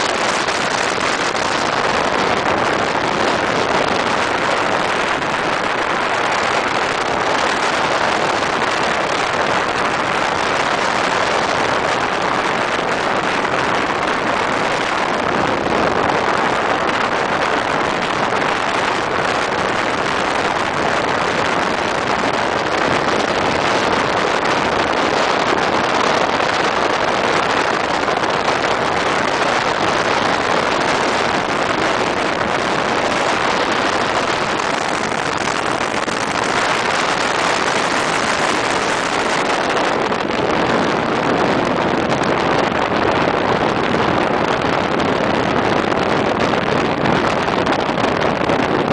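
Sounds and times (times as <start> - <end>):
tyre and wind noise inside car: 0.0 - 48.9.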